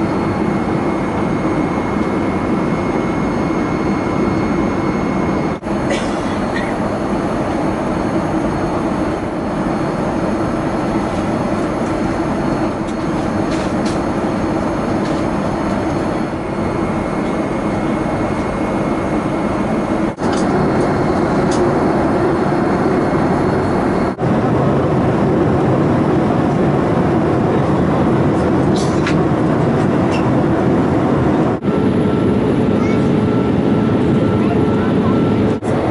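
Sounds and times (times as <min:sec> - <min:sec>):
airplane cabin noise: 0:00.0 - 0:35.9.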